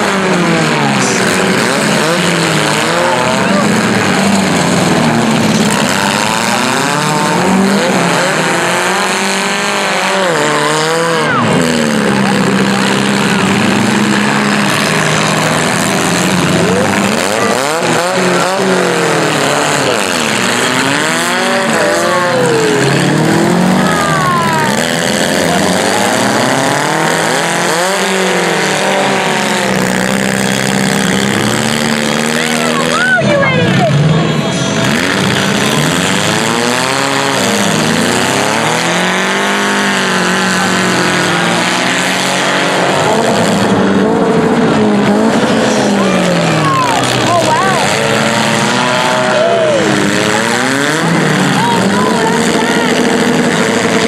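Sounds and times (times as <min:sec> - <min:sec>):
car engines revving: 0:00.0 - 0:54.0
low engine drone: 0:00.0 - 0:54.0.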